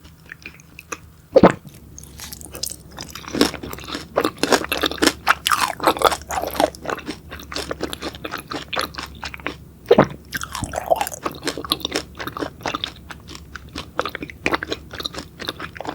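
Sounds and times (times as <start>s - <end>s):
crunchy chewing: 0.0s - 15.9s.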